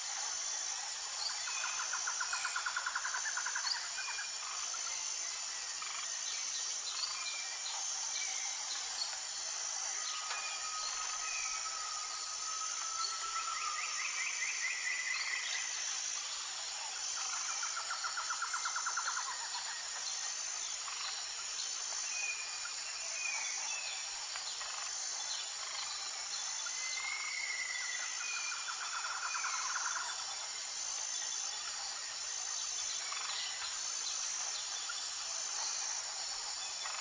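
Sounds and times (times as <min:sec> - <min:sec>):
insect drone: 0:00.0 - 0:37.0.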